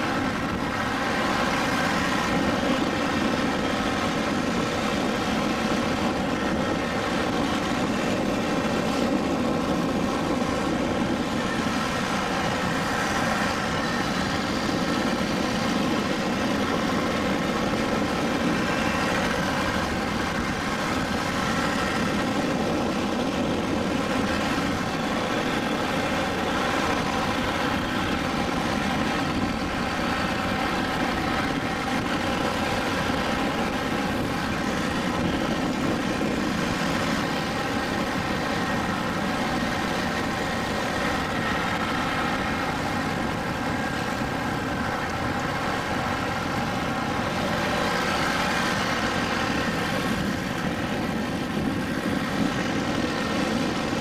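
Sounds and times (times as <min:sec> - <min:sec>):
road and wind noise: 0:00.0 - 0:54.0
scooter engine drone: 0:00.0 - 0:54.0.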